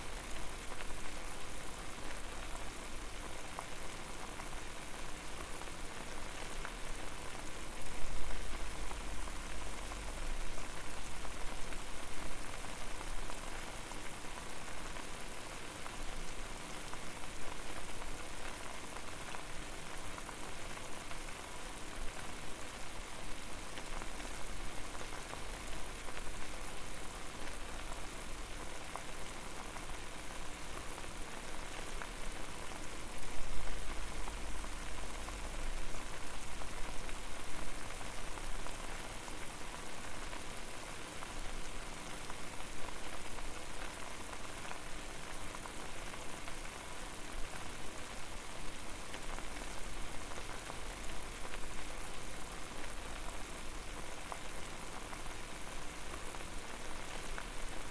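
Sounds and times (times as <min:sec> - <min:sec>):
water boiling: 0:00.0 - 0:57.9.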